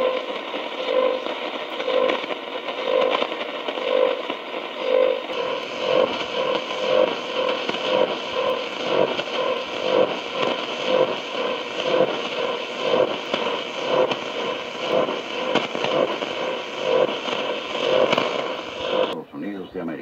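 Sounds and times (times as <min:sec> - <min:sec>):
bright radio pulses: 0:00.0 - 0:19.2
shortwave radio static: 0:00.0 - 0:20.0.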